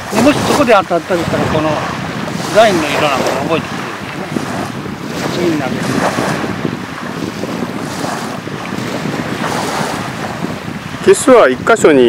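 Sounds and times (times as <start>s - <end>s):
small waves washing on sand: 0.0s - 12.0s
wind buffeting microphone: 0.0s - 12.0s.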